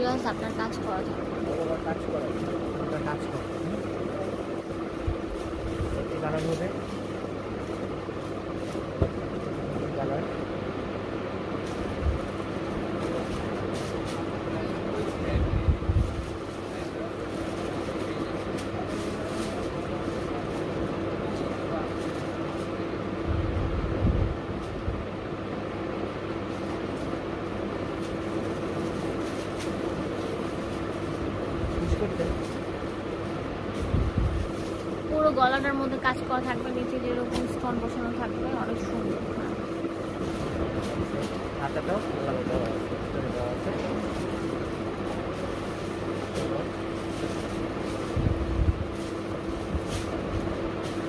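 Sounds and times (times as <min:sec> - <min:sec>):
shop background hum: 0:00.0 - 0:51.0
fabric rustling: 0:00.1 - 0:09.9, 0:11.5 - 0:22.9, 0:26.4 - 0:51.0.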